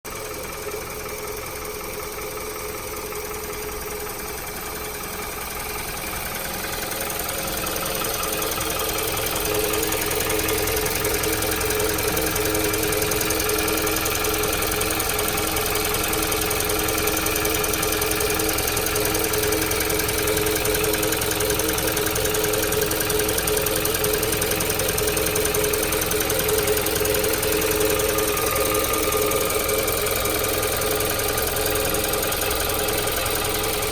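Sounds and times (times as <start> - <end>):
car engine idling with abnormal noise: 0.1 - 33.9.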